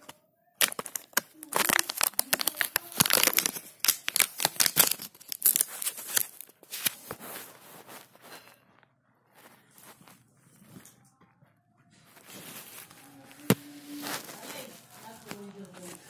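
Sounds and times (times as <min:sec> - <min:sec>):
plastic packaging crackling: 0:00.6 - 0:11.0, 0:12.1 - 0:16.0.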